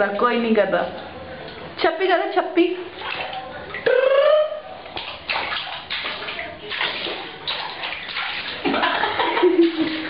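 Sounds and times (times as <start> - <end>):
water splashing in a bathtub: 0.0 - 10.0.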